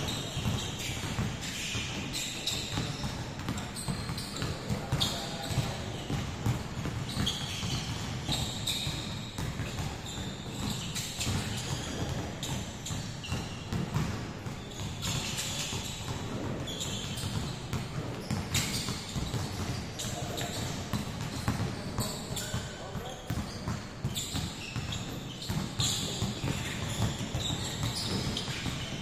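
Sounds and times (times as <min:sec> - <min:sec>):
basketballs bouncing in a hall: 0:00.0 - 0:29.0
sneaker squeaks: 0:00.0 - 0:29.0.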